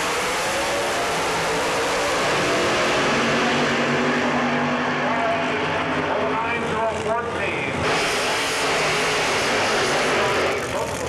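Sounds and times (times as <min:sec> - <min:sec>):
drag racing cars at full throttle: 0:00.0 - 0:11.0.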